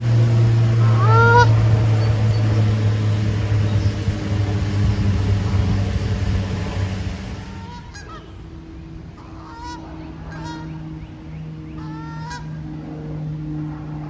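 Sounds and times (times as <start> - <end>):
goose honking: 0.0 - 11.0, 11.8 - 12.7
low hum and rumble: 0.0 - 14.0.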